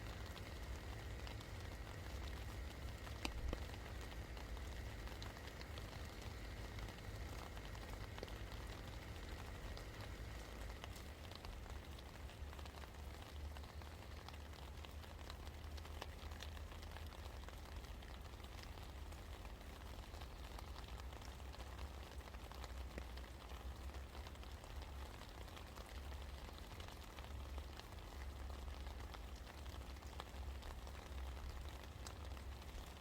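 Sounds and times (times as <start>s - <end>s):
low steady rumble: 0.0s - 33.0s
rain drops patting on surfaces: 0.0s - 33.0s.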